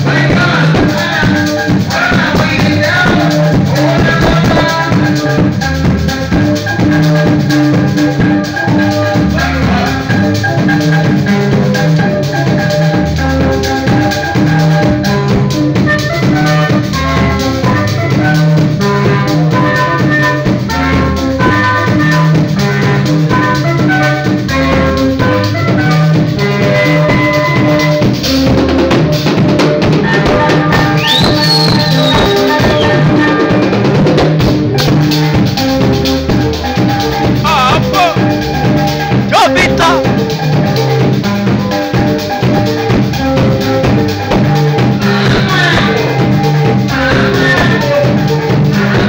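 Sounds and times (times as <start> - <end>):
bass guitar: 0.0 - 49.0
drum kit beat: 0.0 - 49.0
electric guitar: 0.0 - 49.0.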